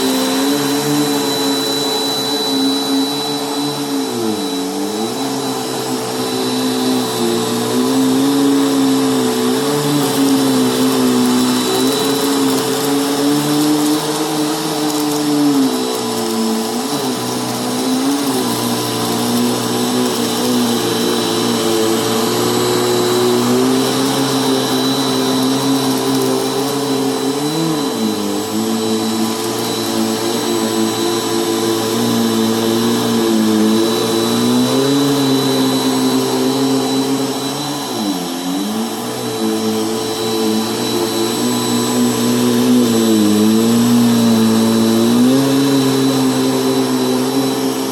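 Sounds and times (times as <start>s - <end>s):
vacuum cleaner on carpet: 0.0s - 47.9s.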